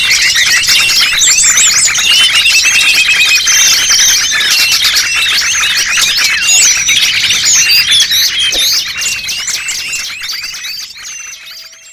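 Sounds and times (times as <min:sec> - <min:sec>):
songbirds chirping and twittering: 0:00.0 - 0:11.9.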